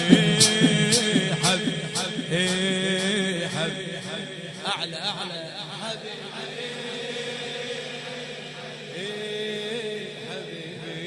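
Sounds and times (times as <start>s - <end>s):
man chanting in long held notes: 0.0s - 11.0s.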